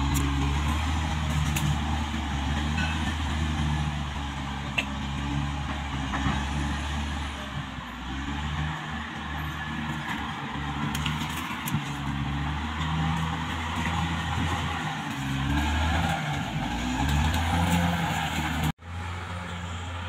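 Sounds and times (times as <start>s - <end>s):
bulldozer diesel engine humming: 0.0s - 20.0s.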